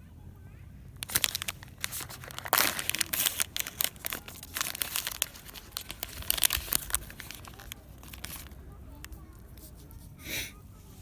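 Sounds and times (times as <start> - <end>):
packaging crinkling: 1.0 - 10.0.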